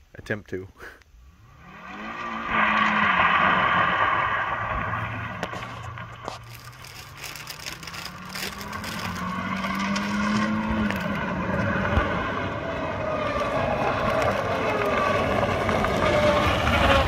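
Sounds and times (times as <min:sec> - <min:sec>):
car engine accelerating: 0:01.3 - 0:17.0.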